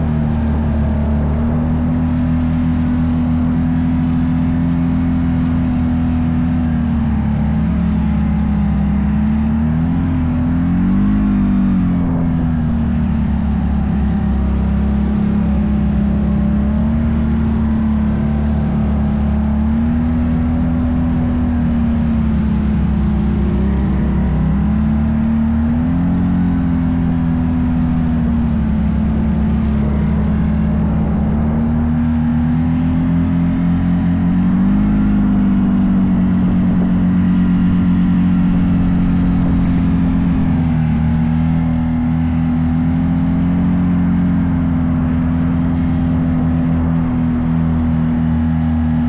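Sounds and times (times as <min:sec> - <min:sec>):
off-road vehicle engine running: 0:00.0 - 0:49.0.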